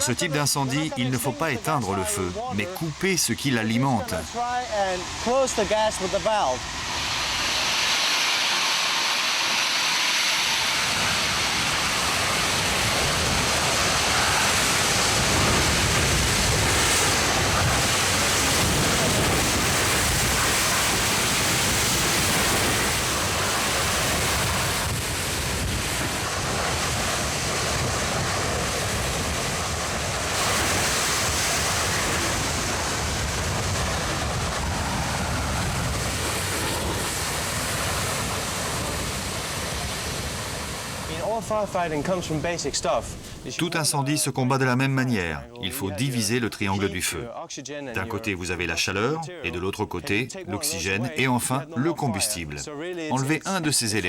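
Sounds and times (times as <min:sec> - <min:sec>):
pressurised gas burning: 0:00.0 - 0:43.6.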